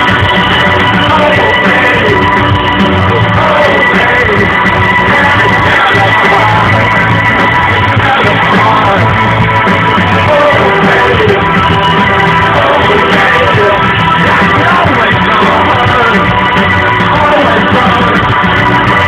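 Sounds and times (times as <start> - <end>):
live electronic rock band: 0.0 - 19.0.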